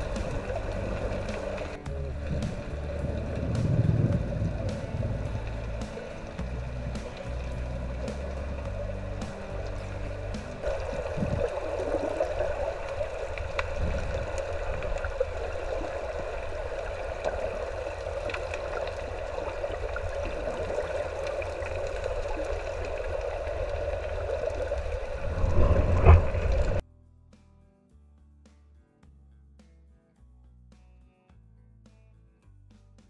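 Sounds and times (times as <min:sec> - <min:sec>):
muffled underwater river rush: 0:00.0 - 0:26.8.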